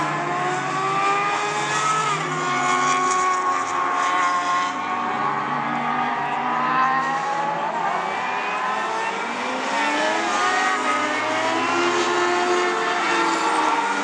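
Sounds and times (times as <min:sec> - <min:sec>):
race car engine passing: 0:00.0 - 0:14.0.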